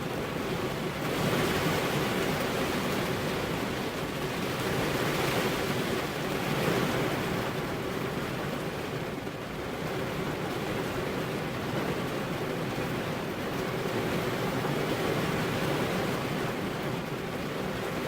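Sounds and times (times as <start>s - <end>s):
rain on car window: 0.0s - 18.0s.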